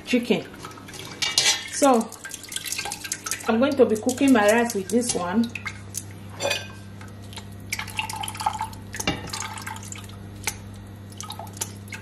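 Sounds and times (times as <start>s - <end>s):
steady low hum: 0.0s - 12.0s
stock dripping into pot: 0.8s - 12.0s.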